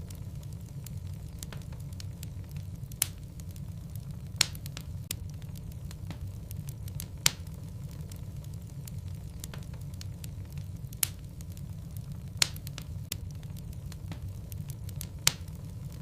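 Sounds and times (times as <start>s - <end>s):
logs crackling in fireplace: 0.0s - 16.0s
loud fire pops: 0.0s - 16.0s
steady low rumble: 0.0s - 16.0s.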